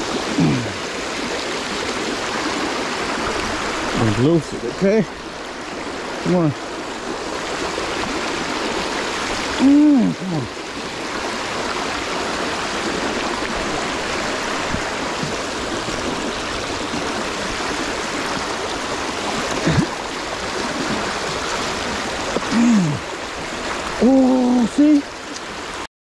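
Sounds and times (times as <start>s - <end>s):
river water flowing over stones: 0.0s - 25.9s.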